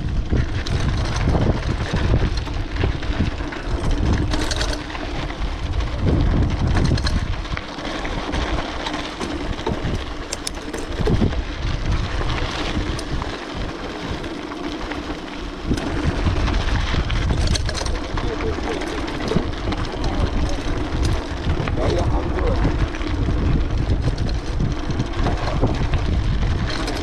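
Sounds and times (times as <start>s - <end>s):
faint ticks and rattles: 0.0s - 27.0s
wind buffeting microphone: 0.0s - 27.0s.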